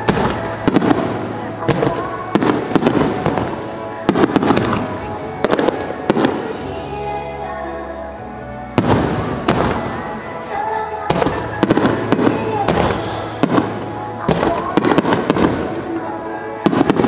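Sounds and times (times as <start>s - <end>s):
fireworks bursting in sharp bangs: 0.0s - 6.7s, 8.8s - 10.1s, 11.1s - 17.0s
pop music over loudspeakers: 0.0s - 17.0s.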